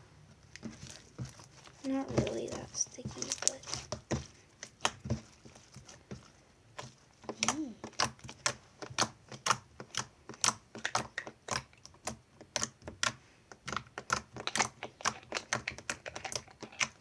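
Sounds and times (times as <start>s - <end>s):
slime squished by hand: 0.6s - 6.0s, 6.7s - 17.0s.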